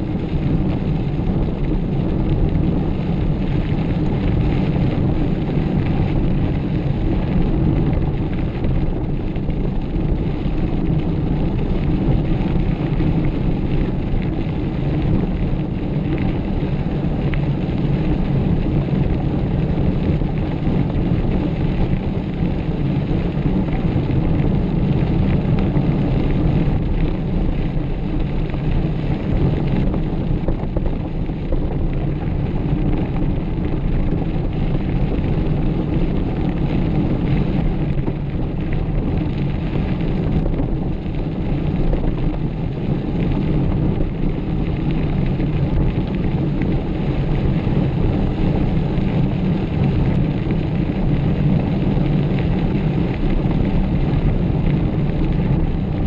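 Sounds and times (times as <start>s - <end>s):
bike tyres rolling on dirt: 0.0s - 56.0s
wind buffeting microphone: 0.0s - 56.0s.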